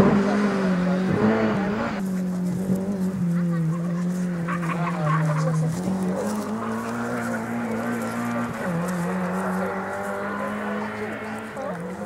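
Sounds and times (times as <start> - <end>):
rally car engine running hard: 0.0 - 12.0.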